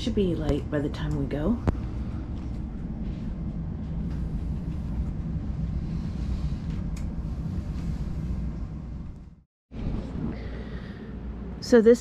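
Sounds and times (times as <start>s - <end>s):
diesel boat engine rumble: 0.0s - 12.0s.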